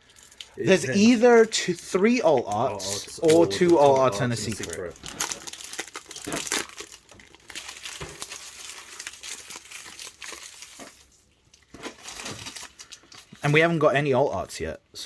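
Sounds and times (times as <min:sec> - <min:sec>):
foil wrapper crinkling and tearing: 0:00.0 - 0:13.6.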